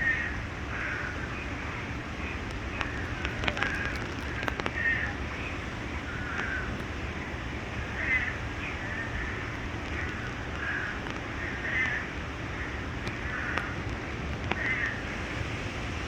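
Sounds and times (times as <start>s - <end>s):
bird giving harsh crow-like calls: 0.0s - 13.8s
steady low rumble: 0.0s - 16.0s.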